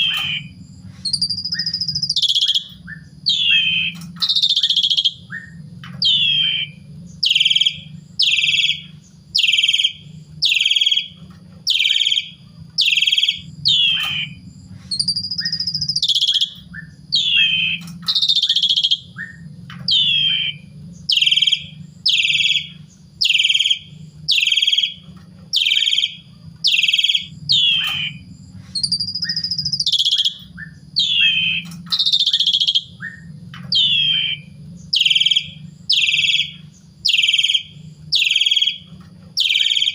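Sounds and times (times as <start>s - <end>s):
rising and falling whistle: 0.0s - 14.4s, 15.0s - 25.0s, 25.6s - 39.9s
starling sweeping calls: 0.0s - 39.9s
steady low hum: 0.0s - 39.9s.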